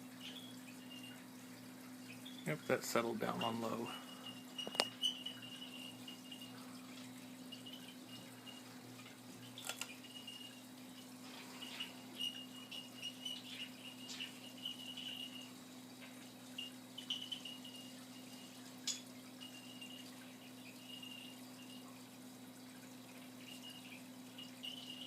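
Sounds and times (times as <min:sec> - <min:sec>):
ceiling fan motor humming: 0:00.0 - 0:25.0.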